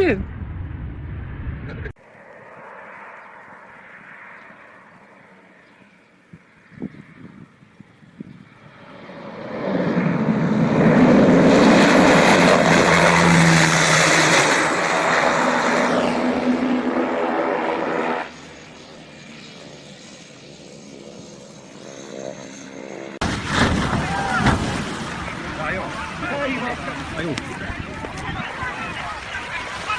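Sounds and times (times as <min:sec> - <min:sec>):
aircraft engine: 0:00.0 - 0:29.9.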